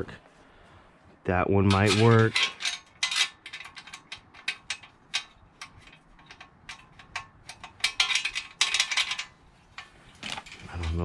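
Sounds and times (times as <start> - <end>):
metal nuts and bolts clinking: 1.6 - 11.0.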